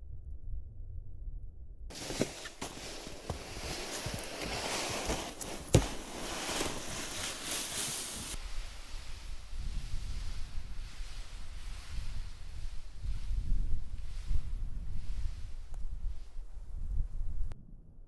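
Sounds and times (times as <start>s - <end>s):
footsteps crunching through snow: 1.9s - 17.6s
wind hissing across microphone: 1.9s - 17.6s.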